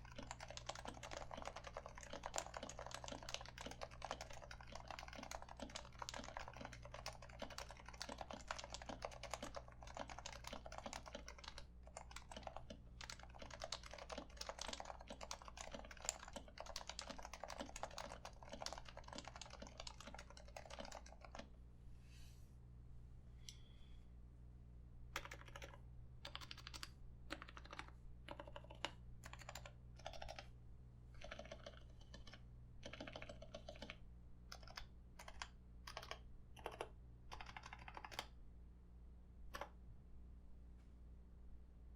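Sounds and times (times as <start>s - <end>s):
soft muted keyboard typing: 0.0s - 21.6s, 25.1s - 30.5s, 31.1s - 38.4s, 39.5s - 39.8s.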